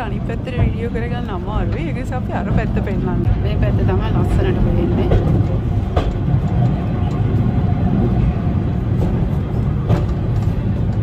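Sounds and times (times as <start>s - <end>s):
railway carriage rumble: 0.0s - 11.0s.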